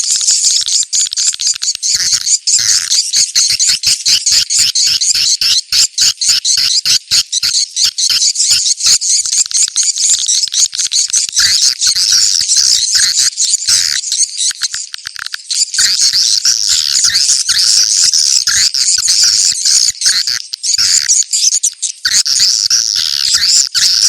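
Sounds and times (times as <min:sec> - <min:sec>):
swiftlets twittering and chirping: 0:00.0 - 0:24.0.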